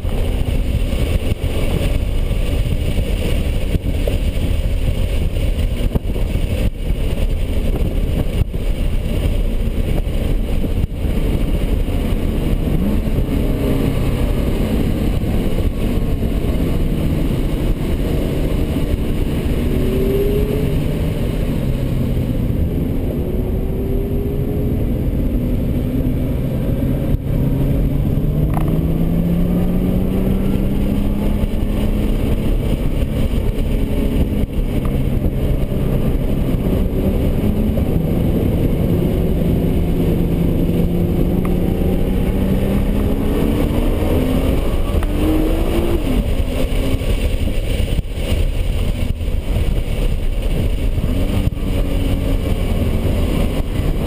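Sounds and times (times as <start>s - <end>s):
car engine from inside cabin: 0.0s - 54.0s
tyre and road noise: 0.0s - 54.0s.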